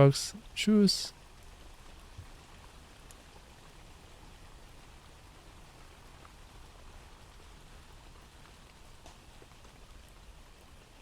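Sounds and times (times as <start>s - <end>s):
light rain with drips: 0.0s - 11.0s.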